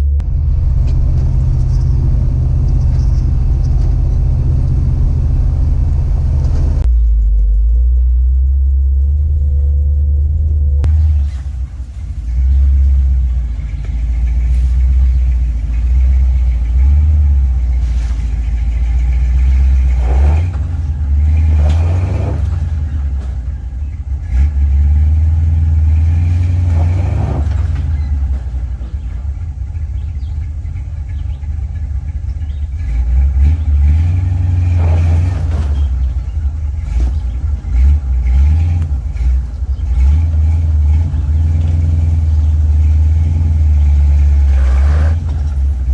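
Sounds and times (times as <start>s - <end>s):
pickup engine droning: 0.0s - 45.9s
tyres on gravel road: 0.0s - 45.9s.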